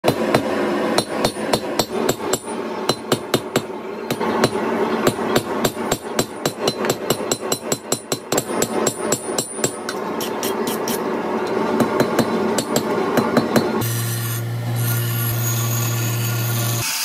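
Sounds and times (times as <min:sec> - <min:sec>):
hammer striking metal on anvil: 0:00.0 - 0:13.8.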